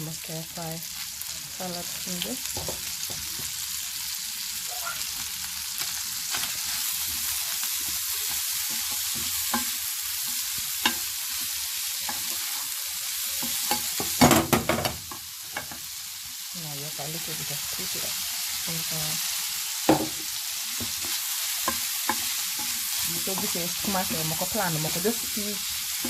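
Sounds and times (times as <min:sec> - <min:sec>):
food sizzling in a hot pan: 0:00.0 - 0:26.0.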